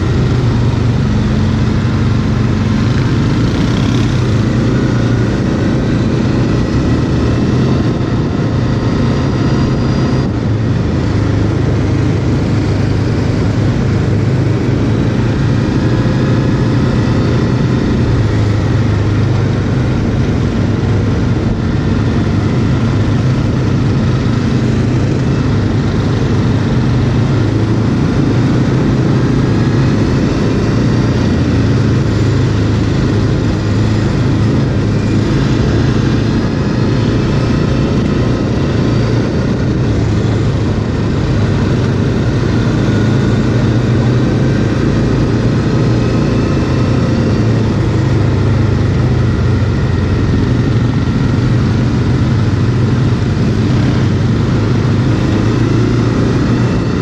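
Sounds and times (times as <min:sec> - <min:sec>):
quad engine running: 0:00.0 - 0:57.0.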